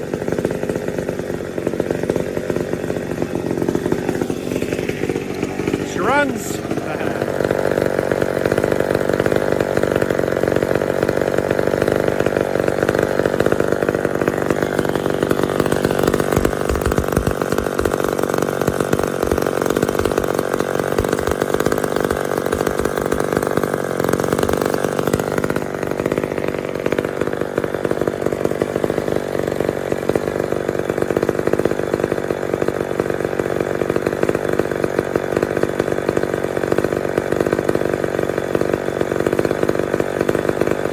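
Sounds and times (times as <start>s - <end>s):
two-stroke chainsaw running: 0.0s - 40.9s.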